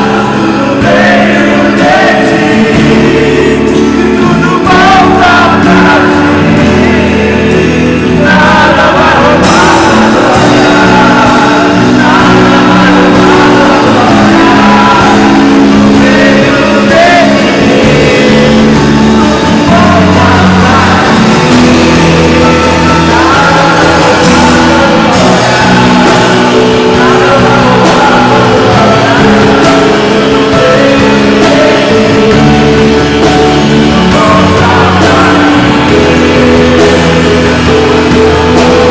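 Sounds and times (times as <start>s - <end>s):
band playing worship music: 0.0s - 38.9s
person singing: 0.0s - 38.9s.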